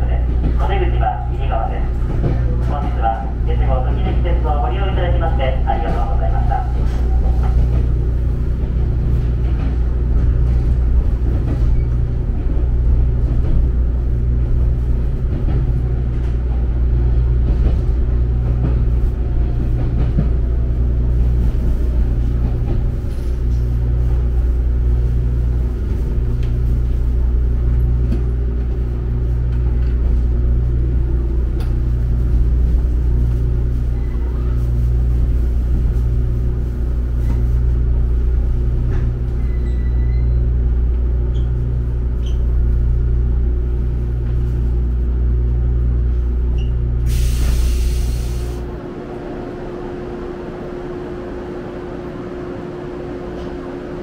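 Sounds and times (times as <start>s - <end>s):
train carriage rumble and hum: 0.0s - 54.0s.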